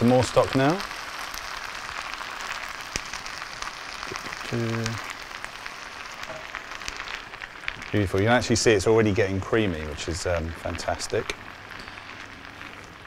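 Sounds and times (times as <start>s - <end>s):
rice sizzling in a frying pan: 0.0s - 13.0s.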